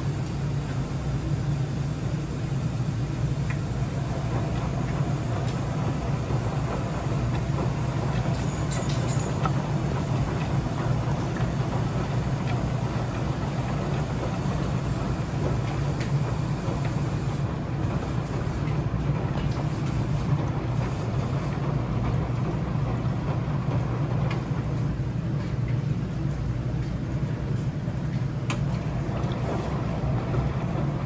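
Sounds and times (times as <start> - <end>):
washing machine hum: 0.0 - 31.0.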